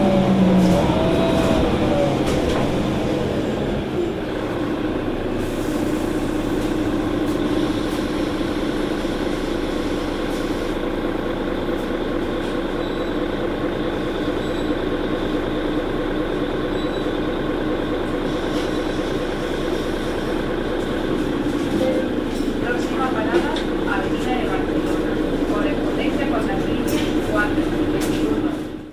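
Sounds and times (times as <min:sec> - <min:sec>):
bus engine droning: 0:00.0 - 0:28.9.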